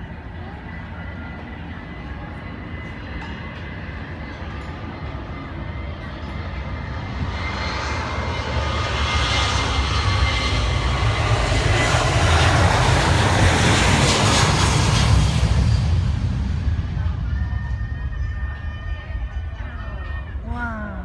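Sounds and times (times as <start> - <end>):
jet engines at takeoff power: 0.0 - 20.5.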